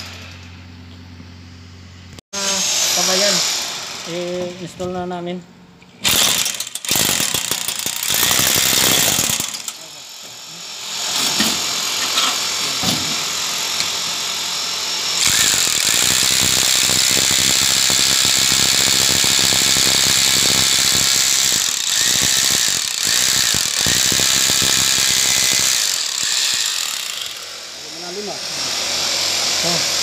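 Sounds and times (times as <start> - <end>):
hammer drill boring into concrete: 2.4 - 4.5, 6.0 - 30.0.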